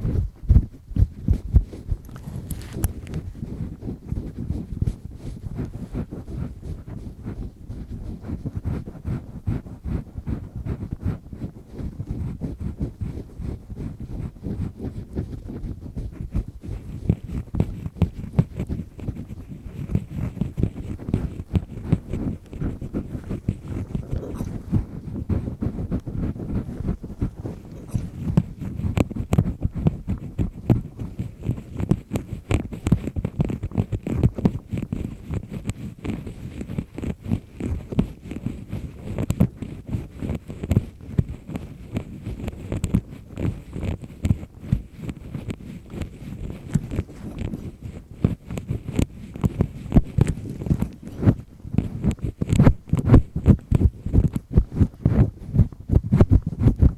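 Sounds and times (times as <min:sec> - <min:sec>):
ear pick scraping inside ear: 0:00.0 - 0:56.9.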